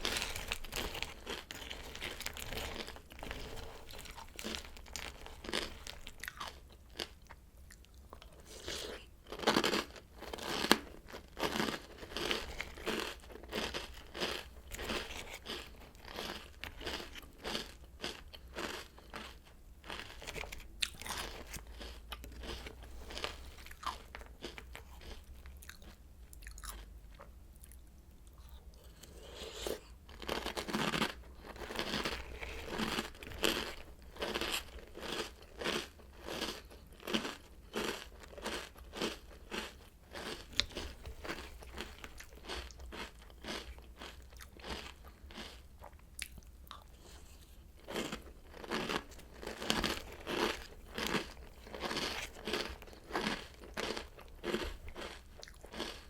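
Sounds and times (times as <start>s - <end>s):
cereal being chewed: 0.0s - 56.0s.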